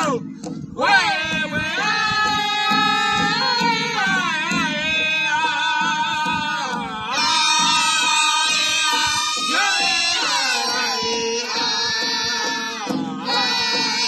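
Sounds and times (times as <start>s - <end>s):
big drum beats: 0.0s - 14.0s
group singing high wavering song: 0.0s - 14.0s.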